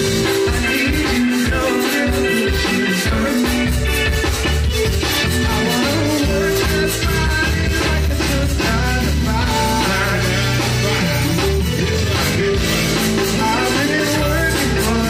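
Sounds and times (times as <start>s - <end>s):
accordion: 0.0s - 15.0s
drums dance beat: 0.0s - 15.0s
electric bass guitar: 0.0s - 15.0s.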